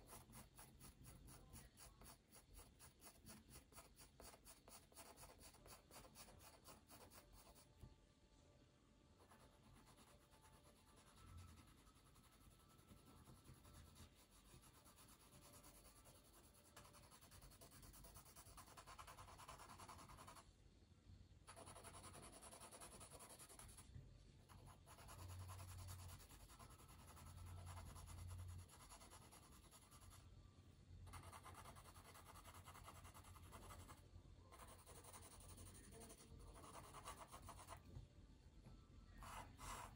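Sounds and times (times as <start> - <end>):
pencil scratching on paper: 0.0 - 7.7, 9.2 - 20.4, 21.5 - 23.9, 24.5 - 30.2, 31.0 - 37.8, 39.2 - 39.9.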